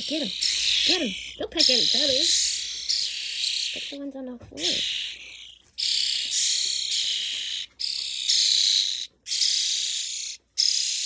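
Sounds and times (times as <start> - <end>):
young starlings begging calls: 0.0 - 11.0.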